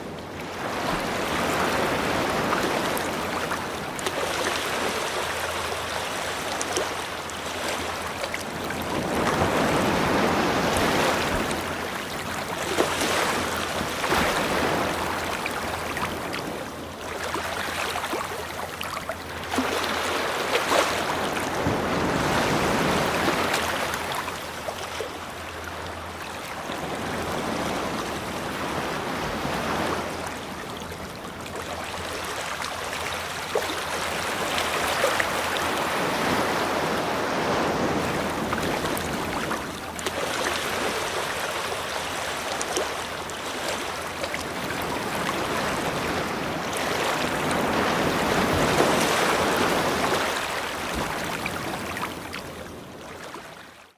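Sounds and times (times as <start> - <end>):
sea waves washing on shore: 0.0 - 53.9.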